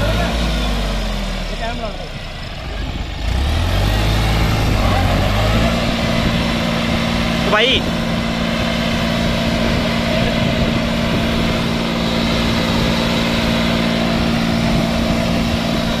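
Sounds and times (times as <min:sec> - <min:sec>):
tractor diesel engine running hard: 0:00.0 - 0:16.0
wheels spinning in loose sand: 0:02.6 - 0:16.0.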